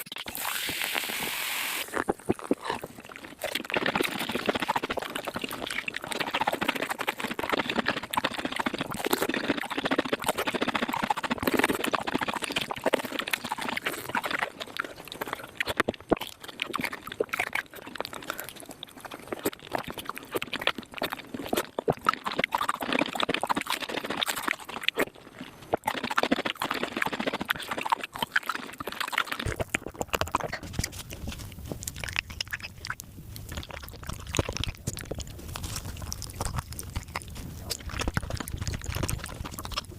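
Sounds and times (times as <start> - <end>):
wet smacking and slurping: 0.0 - 39.9.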